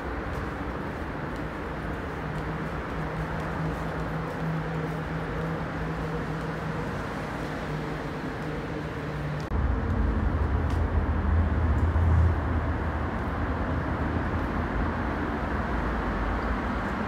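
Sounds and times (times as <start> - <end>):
deep traffic rumble: 0.0 - 17.0
traffic hum: 0.0 - 17.0.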